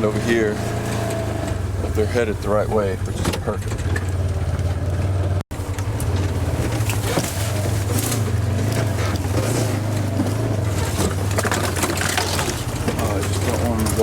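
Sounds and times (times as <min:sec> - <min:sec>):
rattles and knocks: 0:00.0 - 0:14.0
vehicle engine droning: 0:00.0 - 0:14.0.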